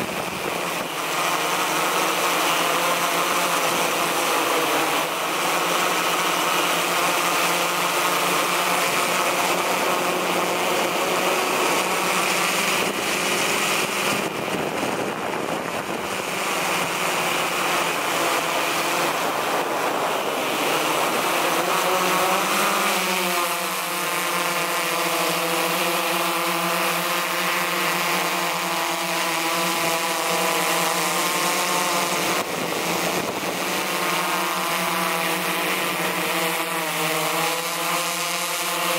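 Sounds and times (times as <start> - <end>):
drone motors whining: 0.0 - 38.9.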